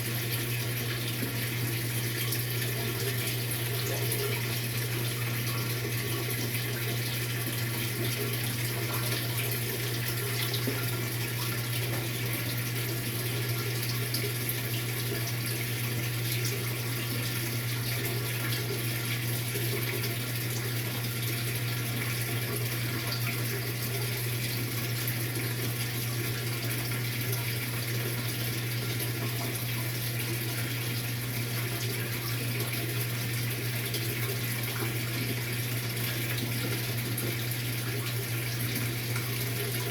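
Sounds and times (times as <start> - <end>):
washing machine low hum: 0.0 - 39.9
water rushing through washer tub: 0.0 - 39.9.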